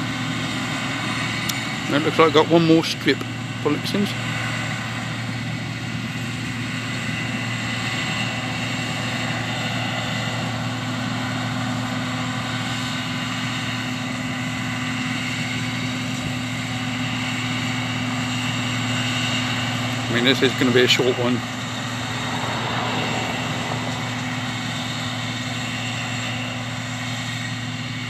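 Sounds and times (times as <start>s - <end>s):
combine harvester engine drone: 0.0s - 28.0s.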